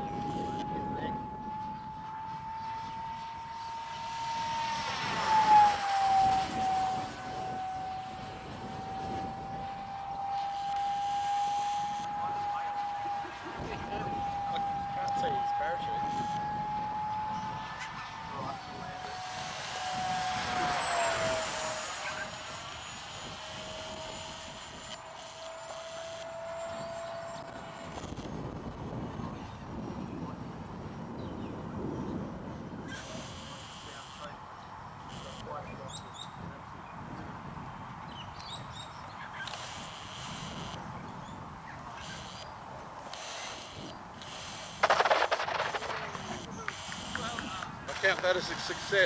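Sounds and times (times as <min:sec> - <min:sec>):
electric ducted fan whine: 0:00.0 - 0:49.0.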